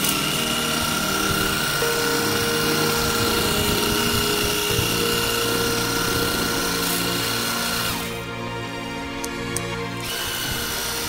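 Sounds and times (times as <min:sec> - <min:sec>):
electric pump motor whining: 0:00.0 - 0:08.4, 0:10.0 - 0:11.0.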